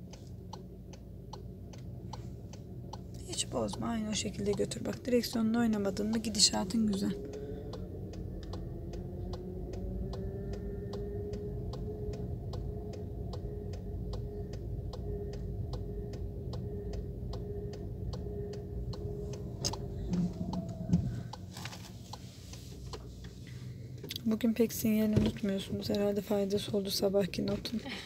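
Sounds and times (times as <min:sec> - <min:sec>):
car engine low hum: 0:00.0 - 0:28.0
turn signal ticking: 0:00.0 - 0:28.0.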